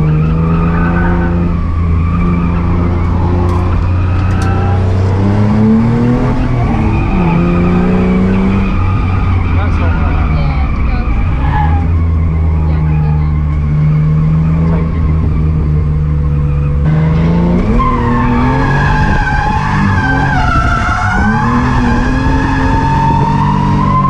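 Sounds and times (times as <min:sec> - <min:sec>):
car engine revving: 0:00.0 - 0:24.0
tyres skidding: 0:00.0 - 0:24.0.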